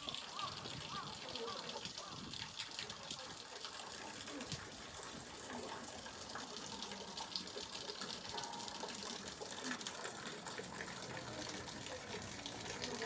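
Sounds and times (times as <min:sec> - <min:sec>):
small stream babbling: 0:00.0 - 0:13.0.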